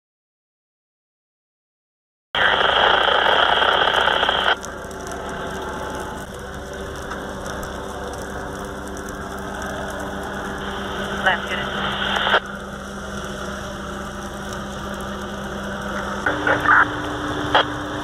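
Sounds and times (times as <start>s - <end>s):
fire crackling and popping: 2.4s - 18.0s
steady engine hum: 2.4s - 18.0s.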